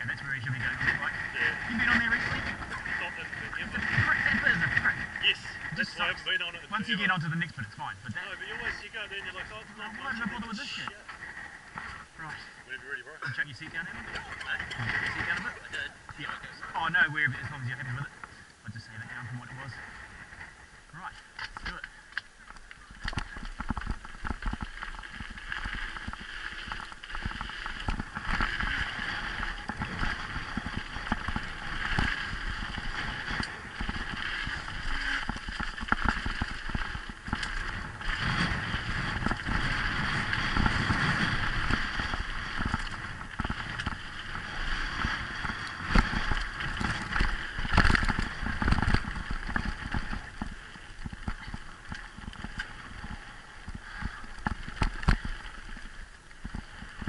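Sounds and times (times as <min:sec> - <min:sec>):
bike clattering and rattling: 0:00.0 - 0:12.5, 0:13.3 - 0:18.3, 0:19.4 - 0:57.0
bike tyres crunching over stones: 0:00.0 - 0:57.0.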